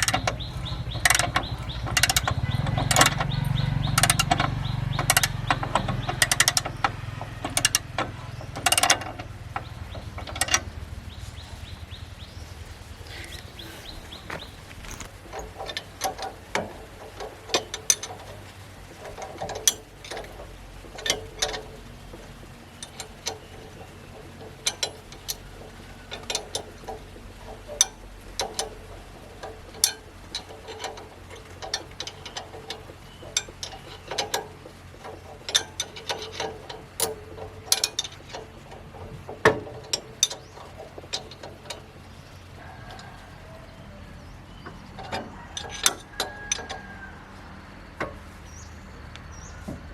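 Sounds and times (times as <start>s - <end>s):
hand tools clinking on metal: 0.0s - 11.3s, 13.1s - 42.0s, 42.6s - 47.0s.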